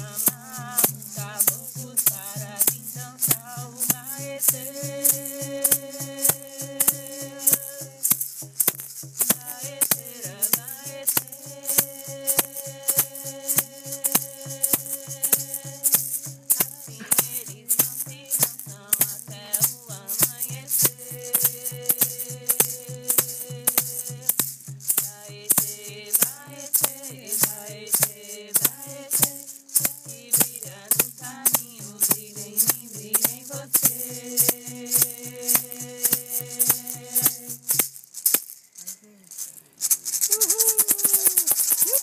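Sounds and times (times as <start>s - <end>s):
hand rattle shaking: 0.0s - 42.0s.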